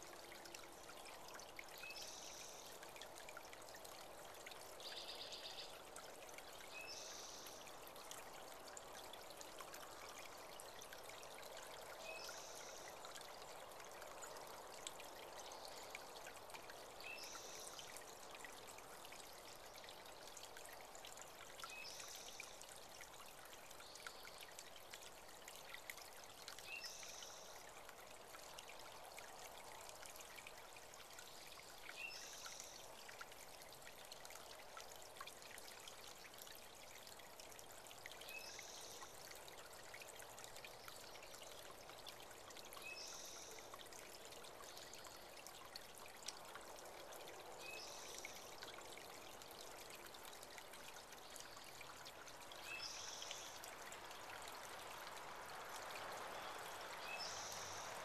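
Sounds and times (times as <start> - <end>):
creek trickling and babbling: 0.0 - 58.0.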